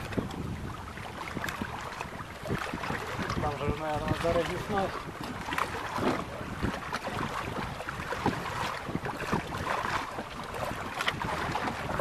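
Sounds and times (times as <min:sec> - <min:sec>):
waves slapping boat hull: 0:00.0 - 0:12.0
wind buffeting microphone: 0:00.0 - 0:12.0.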